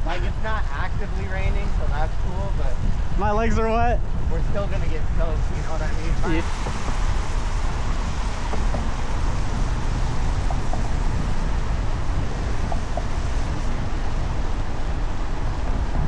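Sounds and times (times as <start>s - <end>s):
tyre hiss on wet road: 0.0s - 16.0s
wind rushing over microphone: 0.0s - 16.0s.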